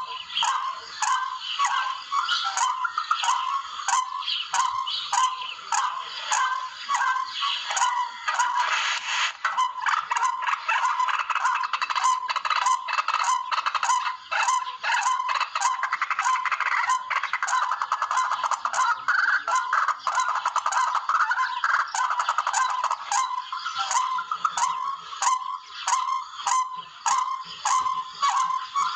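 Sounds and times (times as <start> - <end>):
rail bird calls rapid chatter: 0.0 - 28.9.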